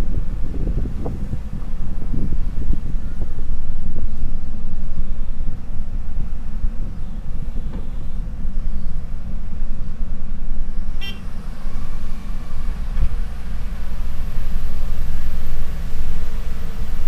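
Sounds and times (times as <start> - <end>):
diesel engines rumbling: 0.0 - 17.0.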